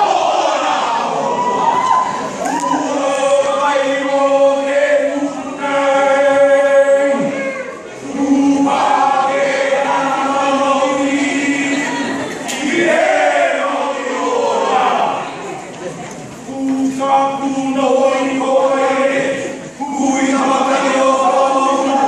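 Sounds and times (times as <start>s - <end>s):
voices chanting long notes: 0.0s - 15.3s, 16.5s - 22.0s.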